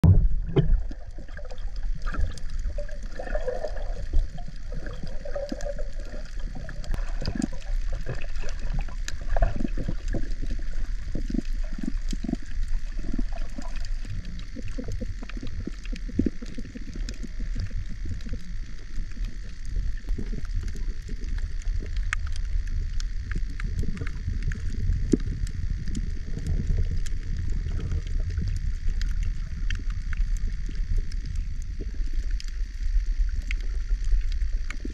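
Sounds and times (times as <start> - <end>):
sharp underwater clicks and crackles: 0.0 - 34.9
underwater rumble of moving water: 0.0 - 34.9
water gurgling: 0.0 - 34.9.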